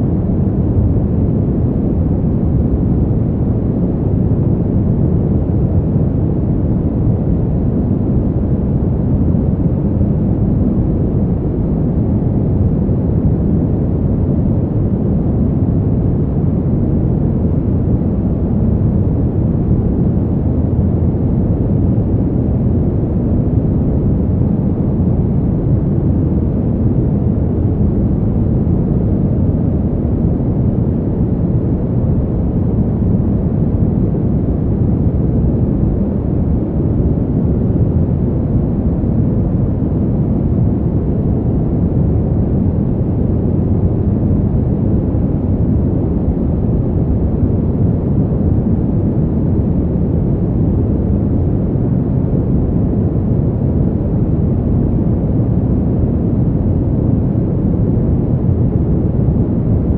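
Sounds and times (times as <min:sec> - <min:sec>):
deep rushing wind: 0:00.0 - 0:59.9.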